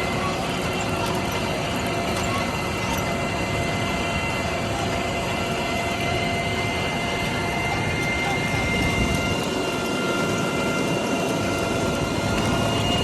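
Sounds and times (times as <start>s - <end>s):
tractor engine rattling: 0.0s - 13.0s.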